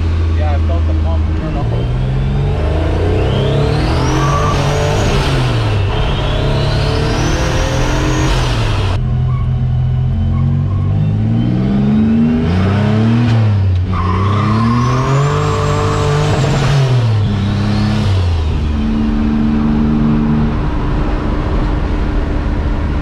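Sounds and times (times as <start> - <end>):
engine accelerating hard: 0.0 - 23.0.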